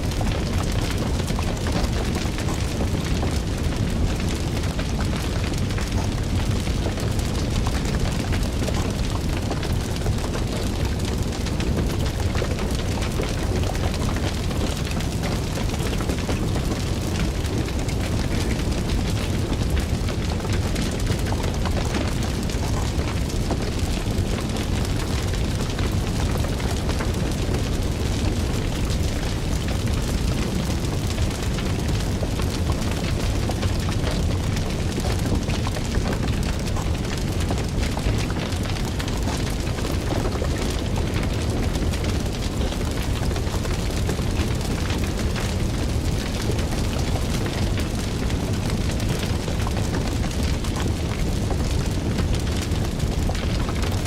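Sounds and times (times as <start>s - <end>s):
fire crackling and popping: 0.0s - 54.0s
fire roaring: 0.0s - 54.0s.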